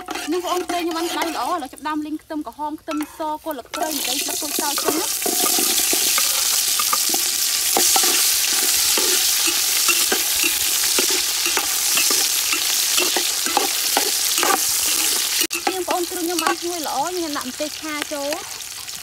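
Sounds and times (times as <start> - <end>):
ladle knocking and scraping pot: 0.0 - 1.6, 2.9 - 16.9
food sizzling in hot oil: 0.0 - 19.0.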